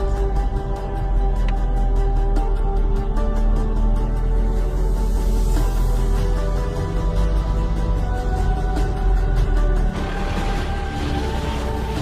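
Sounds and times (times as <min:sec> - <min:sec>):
music with sustained tones: 0:00.0 - 0:12.0.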